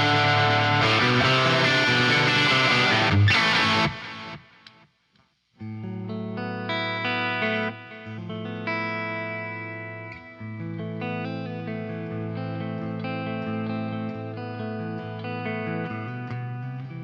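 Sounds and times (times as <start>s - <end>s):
electric guitar chords ringing: 0.0s - 4.5s, 5.6s - 17.0s.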